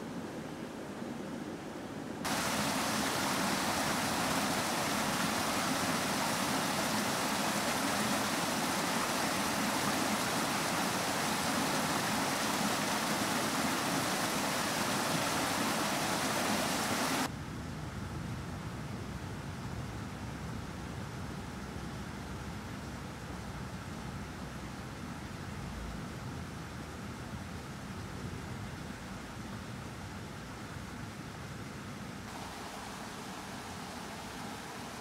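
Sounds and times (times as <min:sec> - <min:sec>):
outdoor background noise: 0:00.0 - 0:35.0
water rushing at a waterwheel: 0:02.2 - 0:17.3, 0:20.0 - 0:35.0.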